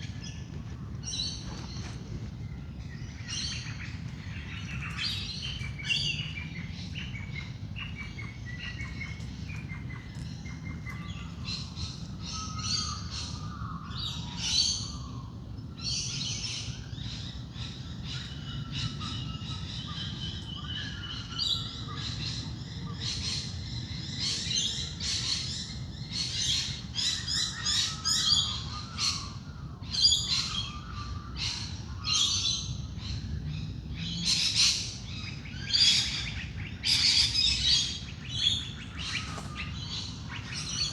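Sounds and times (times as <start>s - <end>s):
birds chirping and calling: 0.0s - 40.9s.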